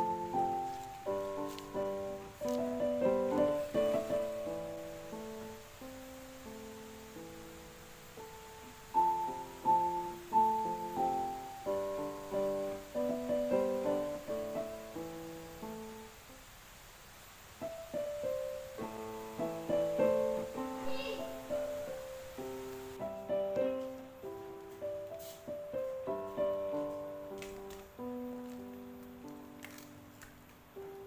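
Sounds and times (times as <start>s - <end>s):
piano melody: 0.0s - 16.4s, 17.6s - 31.0s.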